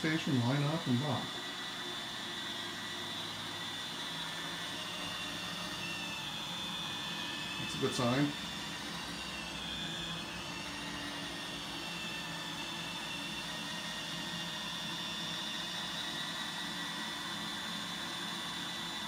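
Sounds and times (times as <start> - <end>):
robot vacuum whirring: 0.0 - 19.0.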